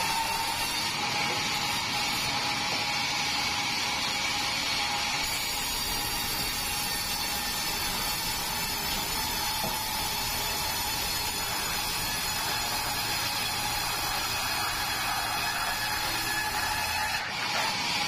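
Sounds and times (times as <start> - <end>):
band saw running with whine: 0.0 - 18.0.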